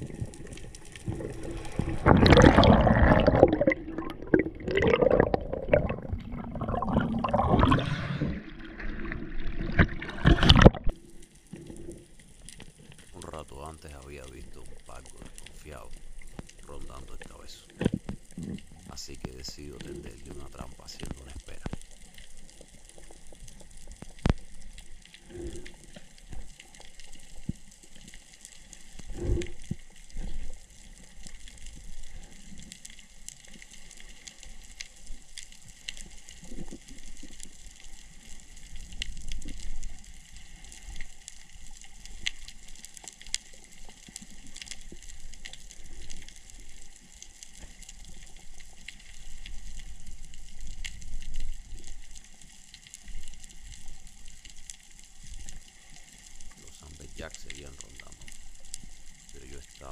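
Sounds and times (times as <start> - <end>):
underwater crackle of clicks: 0.0 - 13.2, 14.2 - 59.8.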